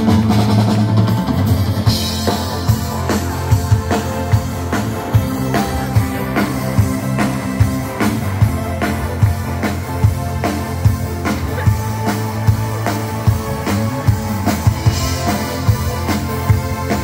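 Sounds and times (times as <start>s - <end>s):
bass guitar: 0.0s - 17.0s
drum kit: 0.0s - 17.0s
electric guitar: 0.0s - 17.0s
keyboards: 0.0s - 17.0s.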